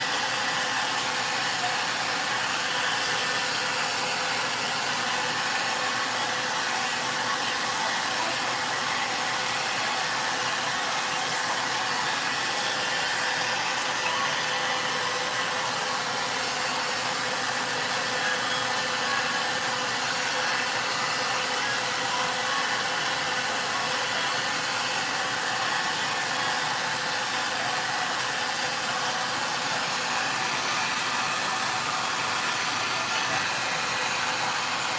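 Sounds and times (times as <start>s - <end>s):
hair dryer blowing: 0.0s - 34.9s.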